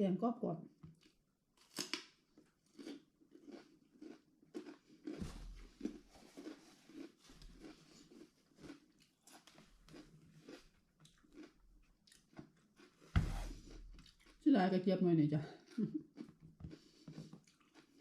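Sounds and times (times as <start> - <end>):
person chewing crunchy cucumber: 1.0 - 14.5, 15.6 - 18.0.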